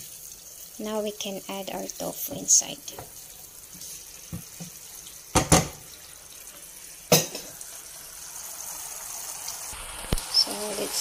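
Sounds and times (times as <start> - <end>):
broth simmering in pan: 0.0 - 11.0.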